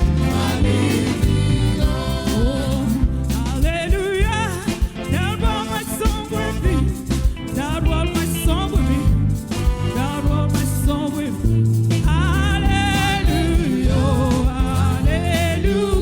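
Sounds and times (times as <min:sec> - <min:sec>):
gospel band music: 0:00.0 - 0:16.0
person singing with vibrato: 0:00.0 - 0:16.0.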